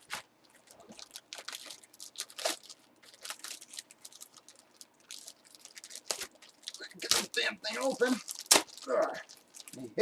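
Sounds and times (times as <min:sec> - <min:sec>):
tape tearing: 0:00.0 - 0:04.3, 0:05.6 - 0:09.8
plastic packaging crinkling: 0:00.0 - 0:09.9.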